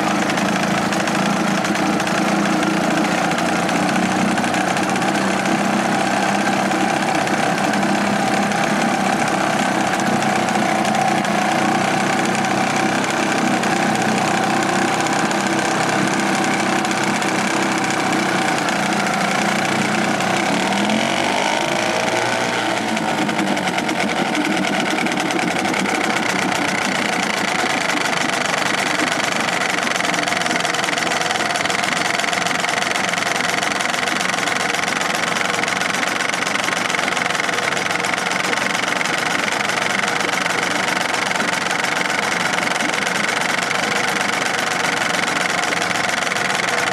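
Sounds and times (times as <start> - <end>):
two-stroke outboard motor running: 0.0 - 46.9.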